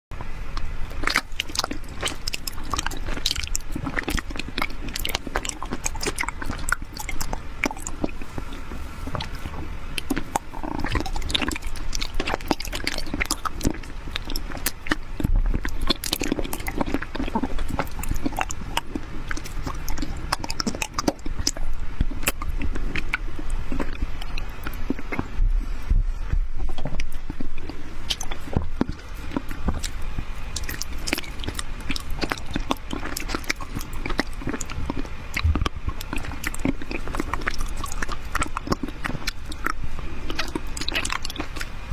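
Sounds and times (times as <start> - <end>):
chewing crunchy candies: 0.4 - 41.9.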